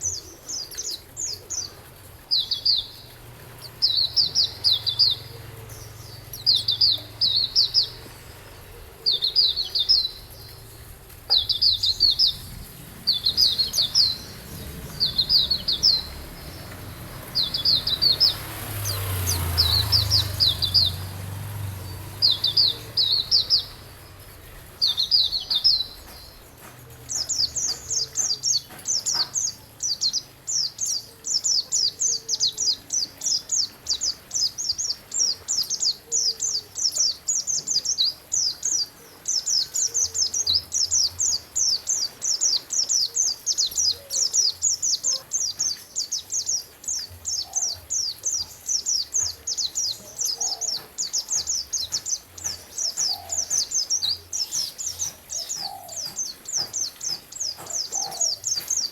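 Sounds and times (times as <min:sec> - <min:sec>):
songbird chattering: 0:00.0 - 0:58.9.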